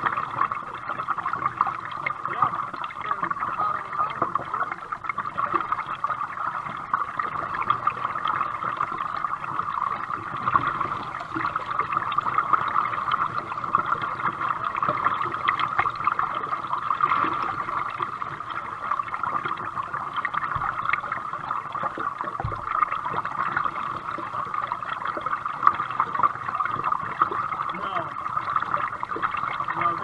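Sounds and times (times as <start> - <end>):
paddle drips and splashes: 0.0 - 30.0
water sloshing around a kayak: 0.0 - 30.0.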